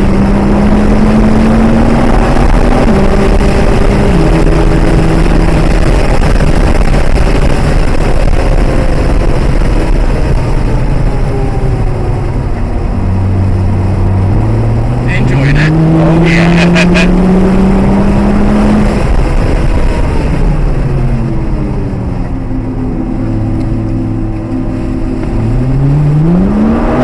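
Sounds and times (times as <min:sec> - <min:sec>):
car engine accelerating: 0:00.0 - 0:27.0
wind and tyre noise: 0:00.0 - 0:27.0.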